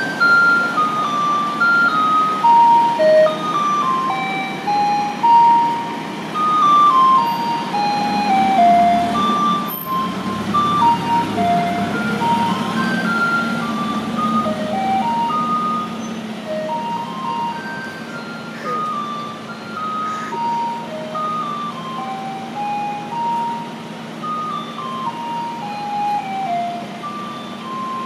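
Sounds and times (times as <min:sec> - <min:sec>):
chiming electronic melody: 0:00.0 - 0:28.0
truck engine running: 0:00.0 - 0:28.0.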